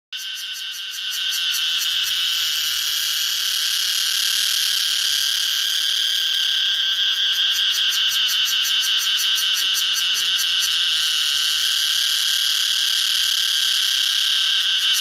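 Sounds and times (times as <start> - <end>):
cicadas buzzing: 0.2 - 15.0.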